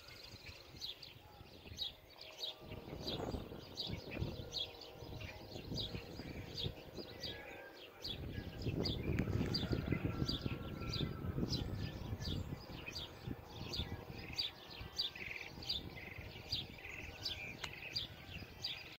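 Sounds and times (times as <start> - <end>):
birds chirping: 0.0 - 19.0
wind rumble on microphone: 0.0 - 19.0.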